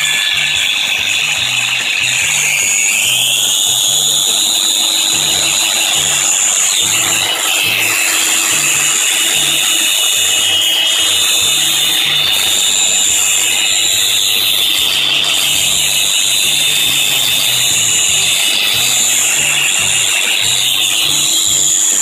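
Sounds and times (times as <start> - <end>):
angle grinder whining: 0.0 - 22.0.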